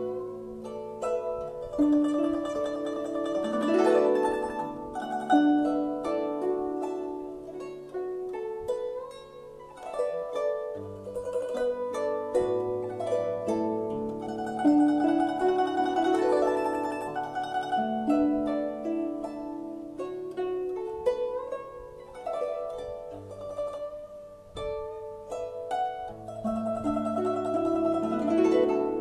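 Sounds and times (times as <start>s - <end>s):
zither glissandi: 0.0s - 29.0s
zither plucked melody: 0.0s - 29.0s.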